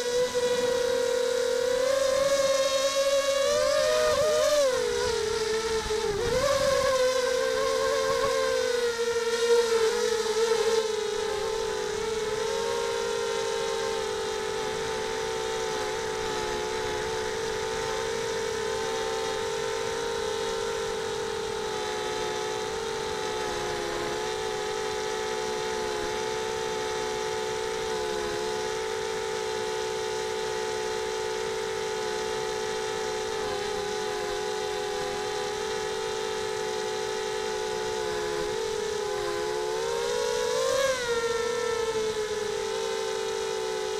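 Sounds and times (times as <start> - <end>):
quadcopter motors whining: 0.0 - 43.9.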